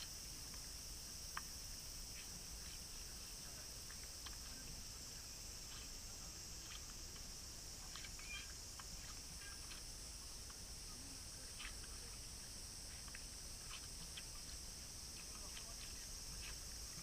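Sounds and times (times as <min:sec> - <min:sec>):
high-pitched hiss: 0:00.0 - 0:17.0
animal chewing watermelon: 0:01.4 - 0:17.0.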